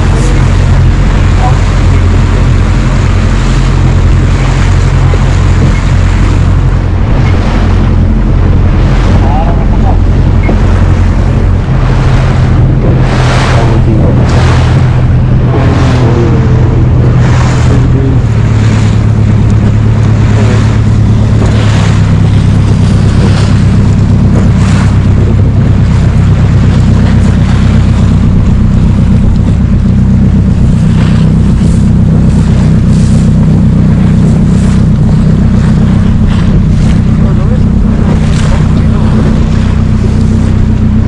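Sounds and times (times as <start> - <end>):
outboard motor running: 0.0 - 41.0
rushing wind and water: 0.0 - 41.0.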